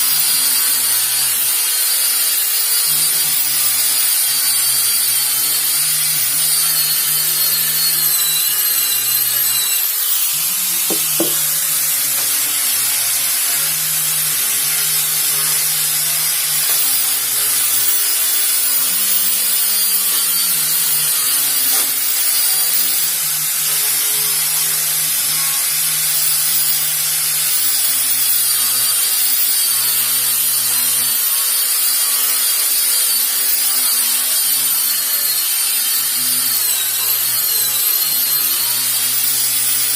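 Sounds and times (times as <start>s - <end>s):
electric sander on wood: 0.0s - 39.9s.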